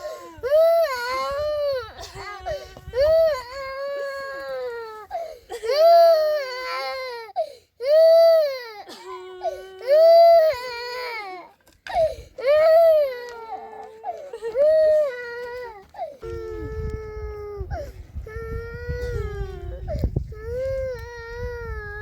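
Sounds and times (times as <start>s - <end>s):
baby crying: 0.0s - 22.0s.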